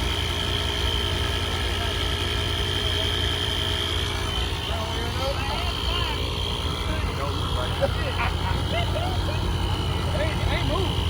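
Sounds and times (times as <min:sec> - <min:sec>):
car engine idling: 0:00.0 - 0:11.0
high-pitched whine: 0:00.0 - 0:11.0.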